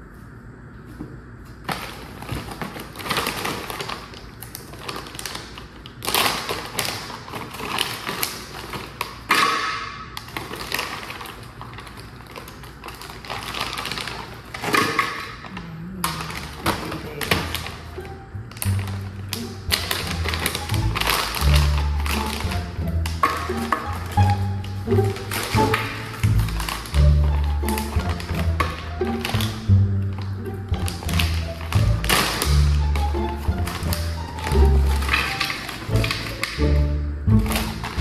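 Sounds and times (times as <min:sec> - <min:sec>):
kitchen clatter: 0:01.7 - 0:38.0.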